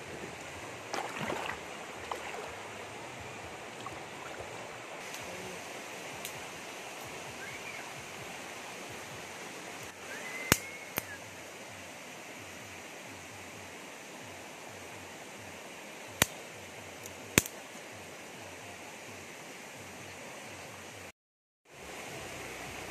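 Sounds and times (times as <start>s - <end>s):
stream rushing over rocks: 0.0s - 21.1s, 21.7s - 22.9s.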